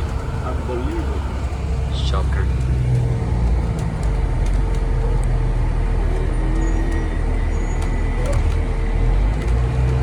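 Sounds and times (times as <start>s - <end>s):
bus engine and road rumble: 0.0s - 10.0s
constant hum: 0.0s - 10.0s.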